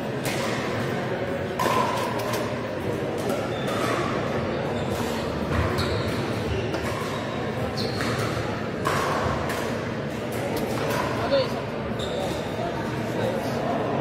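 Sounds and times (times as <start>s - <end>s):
sports hall background noise: 0.0s - 14.0s.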